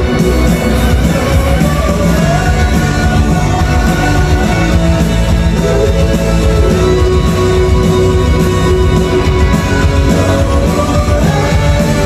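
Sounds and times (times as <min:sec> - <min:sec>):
rock band playing: 0:00.0 - 0:12.0
man singing into a microphone: 0:00.1 - 0:12.0.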